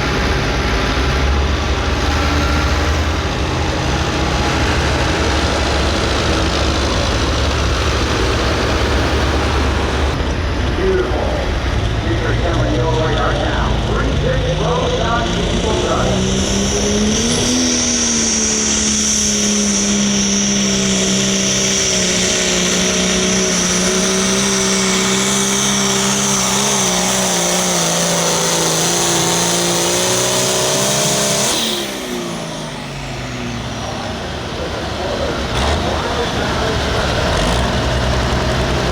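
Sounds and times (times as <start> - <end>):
diesel tractor engine at full throttle: 0.0 - 38.9
high turbo whine: 0.0 - 38.9.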